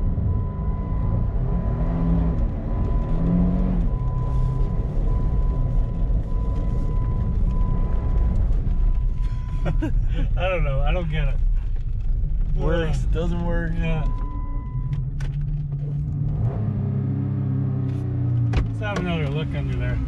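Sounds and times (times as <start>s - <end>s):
car engine revving inside cabin: 0.0s - 9.7s, 10.6s - 20.0s.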